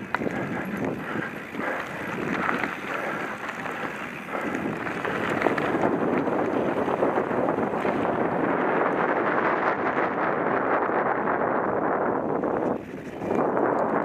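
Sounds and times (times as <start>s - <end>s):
mountain bike rumbling and rattling: 0.0s - 14.0s
wind buffeting microphone: 0.0s - 14.0s.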